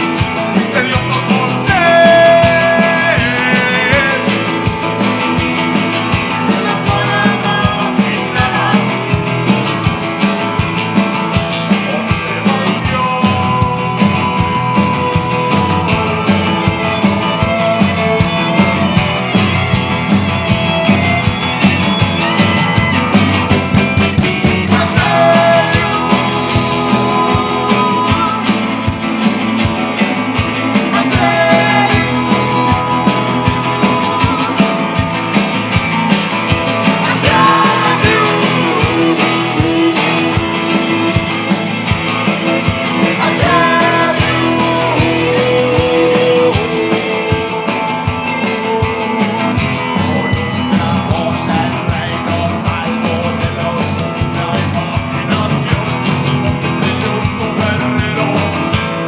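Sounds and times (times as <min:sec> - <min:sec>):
bending sliding guitar lines: 0:00.0 - 0:53.1
psychedelic rock band playing: 0:00.0 - 0:59.0.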